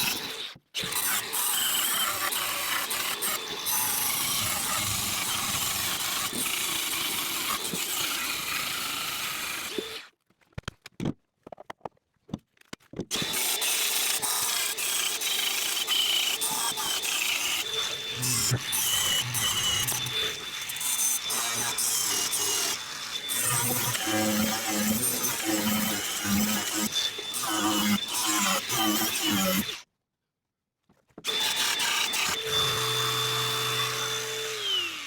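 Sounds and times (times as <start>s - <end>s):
angle grinder grinding metal: 0.0s - 10.0s, 13.1s - 29.8s, 31.3s - 35.0s.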